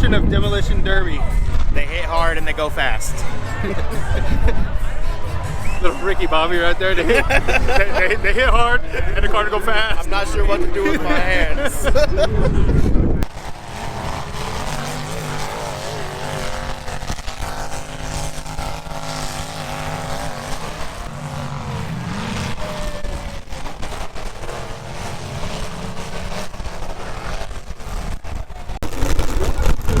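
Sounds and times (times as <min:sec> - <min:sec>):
car engines revving: 0:00.0 - 0:30.0
loud low rumble: 0:00.0 - 0:30.0.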